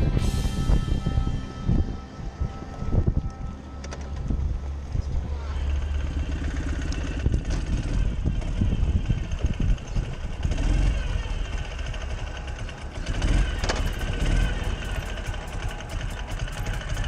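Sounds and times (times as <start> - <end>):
motorcycle engine running: 0.0 - 17.0
wind noise rumble: 0.0 - 17.0.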